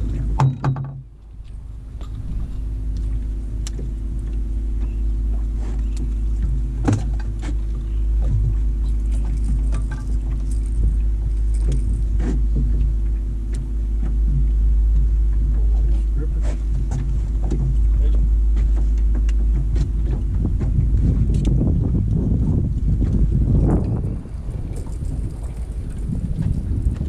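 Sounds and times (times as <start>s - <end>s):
boat motor humming: 0.0s - 27.0s
wind rumbling on microphone: 0.0s - 27.0s.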